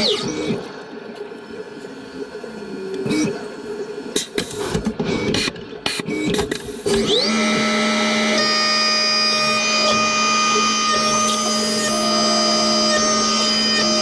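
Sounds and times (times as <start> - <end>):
mill spindle whine: 0.0 - 14.0.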